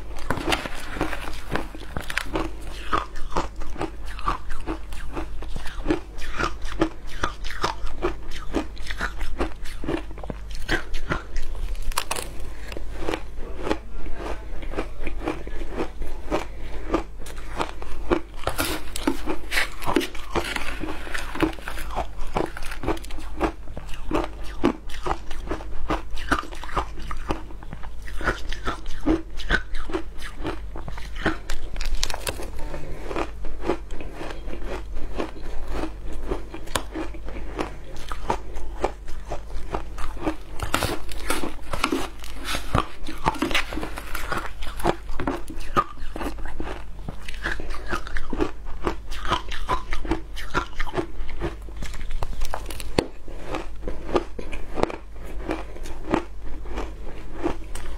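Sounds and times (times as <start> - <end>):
crunching and chewing ice: 0.0 - 57.9.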